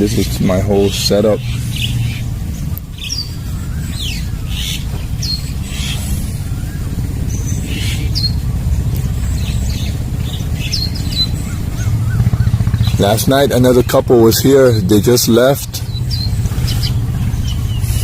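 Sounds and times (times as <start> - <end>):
birds chirping and squawking: 0.0 - 18.0
steady low rumble: 0.0 - 18.0.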